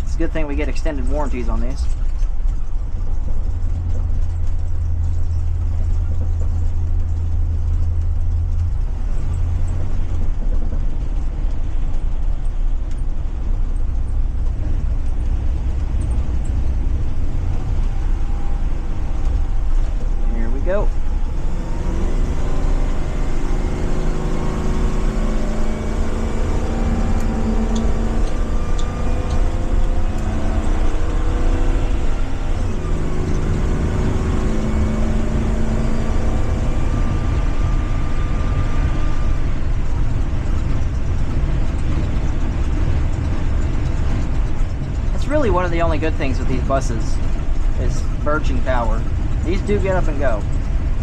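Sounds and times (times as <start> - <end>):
bus engine accelerating: 0.0 - 51.0
transmission shifting up: 0.0 - 51.0.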